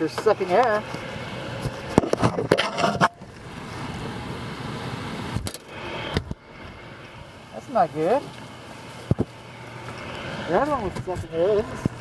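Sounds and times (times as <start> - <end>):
air handler running: 0.0 - 12.0.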